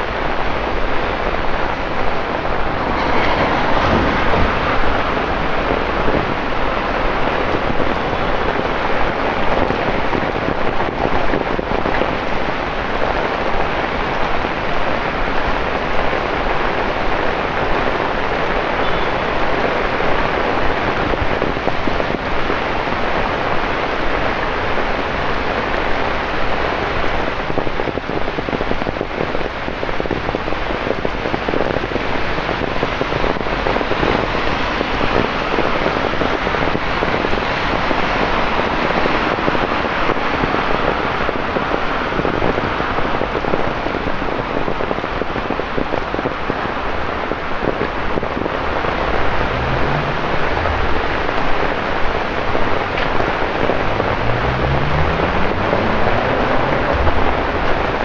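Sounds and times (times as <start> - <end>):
torrential rain on pavement: 0.0 - 58.0.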